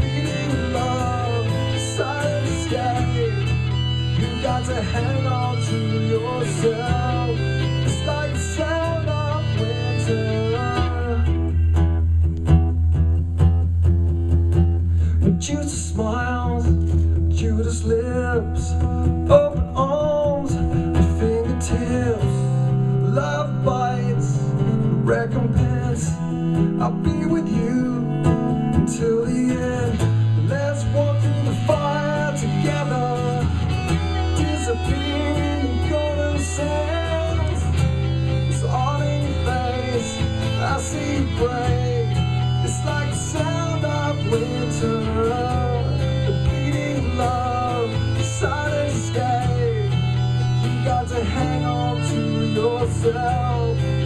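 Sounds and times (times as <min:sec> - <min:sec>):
person singing: 0:00.0 - 0:11.7, 0:15.1 - 0:54.0
strummed acoustic guitar: 0:00.0 - 0:54.0.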